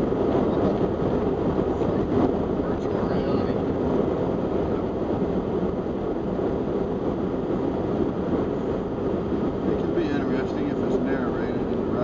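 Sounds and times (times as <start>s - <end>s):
car engine: 0.0s - 12.0s
wind noise: 0.0s - 12.0s.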